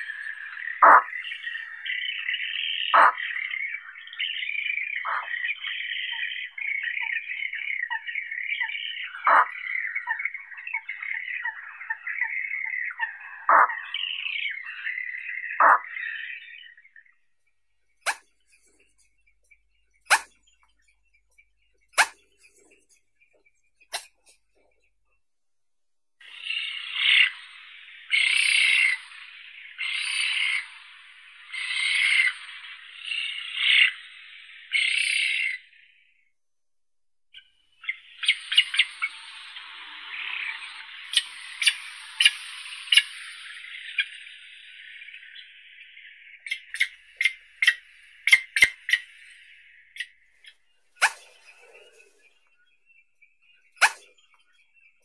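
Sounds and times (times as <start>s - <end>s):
bird harsh bark-like calls: 0.0s - 17.1s, 18.0s - 19.1s, 19.9s - 24.9s, 26.2s - 35.8s, 37.4s - 55.0s
faint high chirping: 0.0s - 25.2s, 26.2s - 36.3s, 37.3s - 55.0s.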